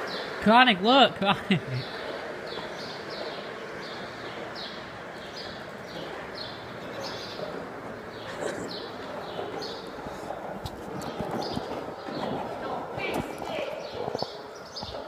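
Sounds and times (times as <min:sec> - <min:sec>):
outdoor background hiss: 0:00.0 - 0:14.8.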